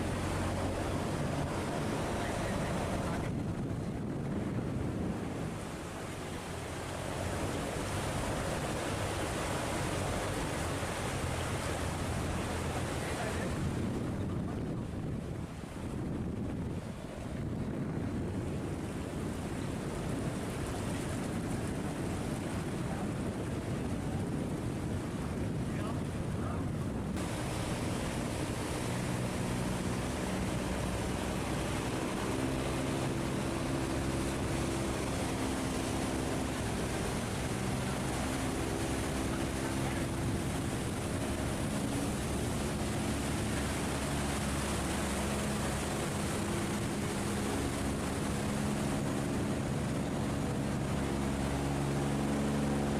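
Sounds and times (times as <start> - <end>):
boat engine running: 0.0 - 52.9
water rushing: 0.0 - 52.9
wind buffeting microphone: 0.0 - 52.9.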